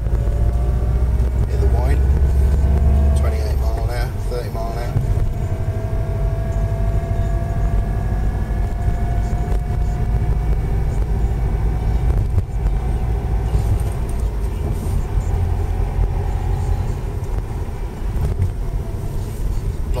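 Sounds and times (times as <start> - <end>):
car road and drivetrain rumble: 0.0 - 20.0
gearbox whine: 0.0 - 20.0.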